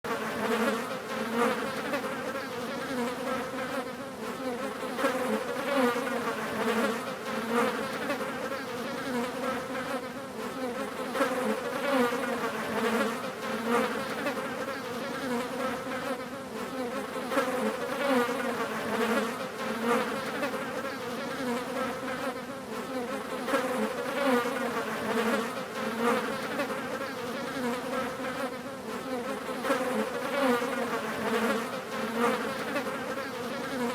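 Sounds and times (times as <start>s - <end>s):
flies buzzing: 0.1s - 33.9s.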